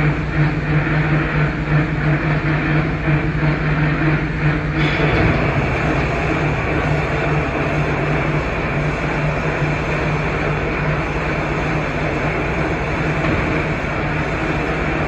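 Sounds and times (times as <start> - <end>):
surface grinder running: 2.5 - 15.0.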